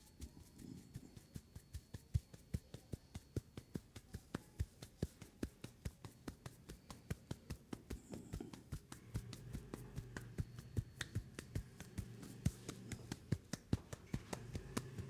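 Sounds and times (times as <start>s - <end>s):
hands tapping on a head: 0.0s - 15.0s.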